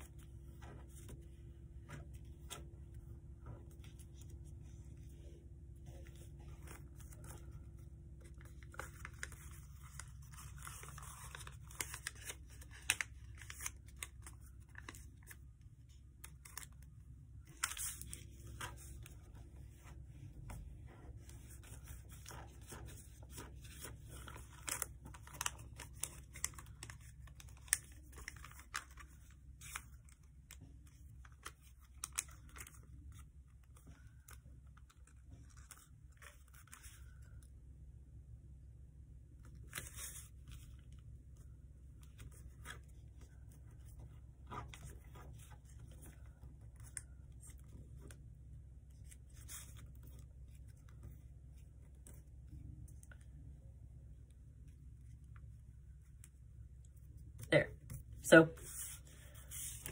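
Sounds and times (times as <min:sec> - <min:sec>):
paper being folded and creased: 0:00.0 - 0:37.5, 0:39.3 - 0:53.6, 0:54.5 - 0:59.9
low steady hum: 0:00.0 - 0:59.9.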